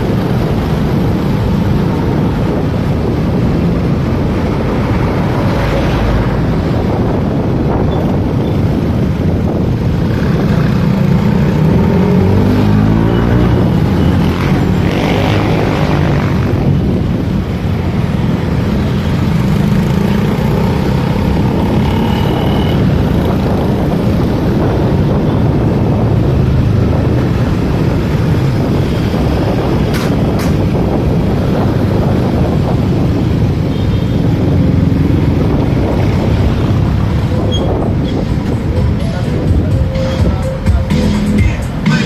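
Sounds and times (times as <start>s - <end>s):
motorcycle engine: 0.0s - 39.5s
road noise: 0.0s - 42.0s.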